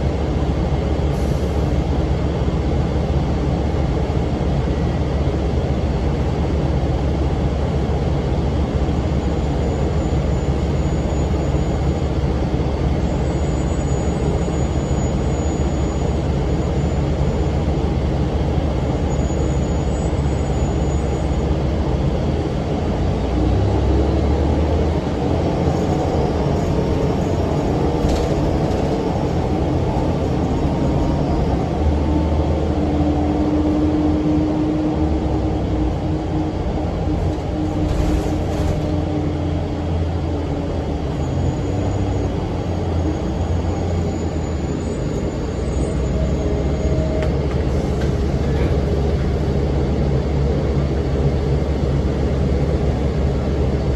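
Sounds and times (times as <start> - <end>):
bus engine rumble: 0.0 - 53.9
road noise: 0.0 - 53.9.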